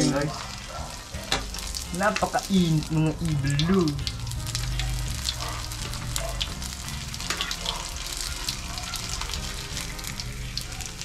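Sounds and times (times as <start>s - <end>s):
fish frying in oil: 0.0s - 11.0s
oil popping and crackling: 0.2s - 11.0s.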